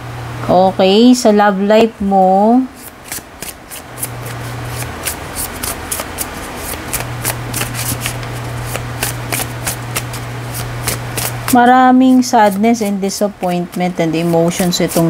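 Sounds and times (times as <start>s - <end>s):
cards being shuffled: 2.8s - 15.0s.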